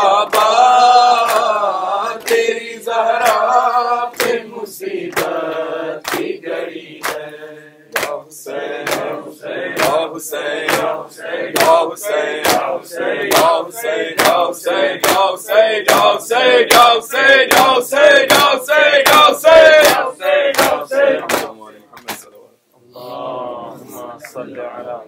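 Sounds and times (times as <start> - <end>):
men chanting together: 0.0 - 21.9, 22.9 - 24.5.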